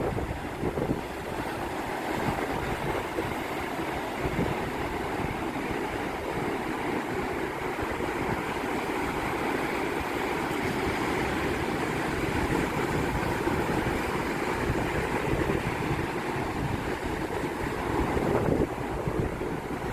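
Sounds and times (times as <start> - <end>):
sea waves breaking on shore: 0.0 - 19.9
wind buffeting microphone: 0.0 - 19.9.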